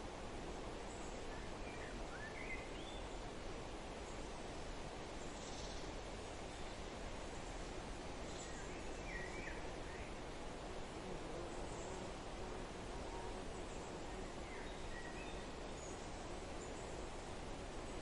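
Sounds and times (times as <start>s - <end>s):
wind rustling trees: 0.0s - 18.0s.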